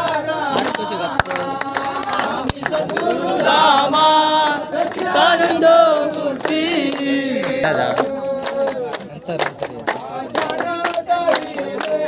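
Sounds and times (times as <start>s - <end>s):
crowd singing together: 0.0s - 12.0s
hand claps: 0.0s - 12.0s.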